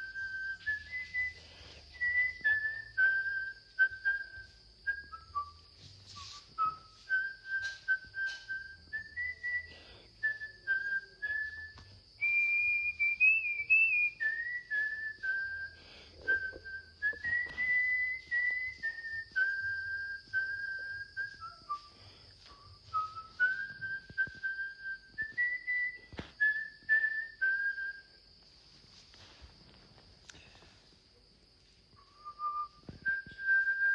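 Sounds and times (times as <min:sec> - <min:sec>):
person whistling a tune: 0:00.0 - 0:28.4, 0:31.9 - 0:33.9
high insect drone: 0:00.0 - 0:33.9.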